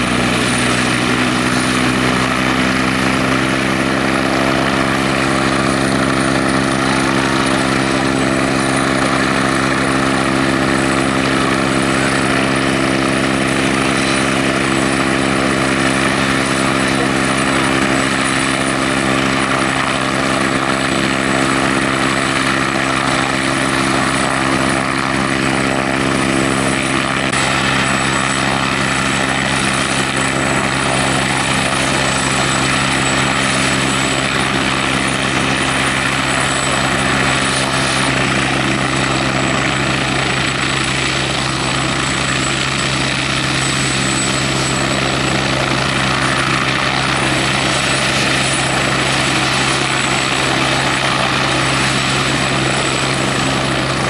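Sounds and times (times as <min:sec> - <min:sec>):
helicopter rotor turning: 0:00.0 - 0:54.0
turbine engine whine: 0:00.0 - 0:54.0.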